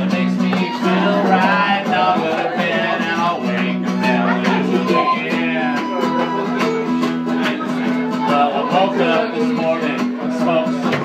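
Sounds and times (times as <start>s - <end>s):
strummed country guitar: 0.0s - 11.0s.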